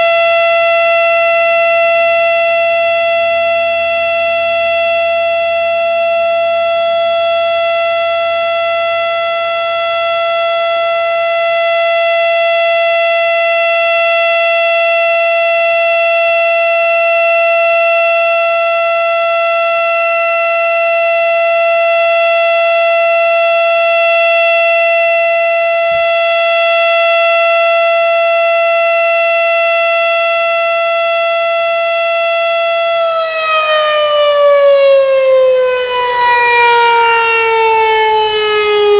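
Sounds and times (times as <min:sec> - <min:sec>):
mechanical siren held tone: 0:00.0 - 0:38.9.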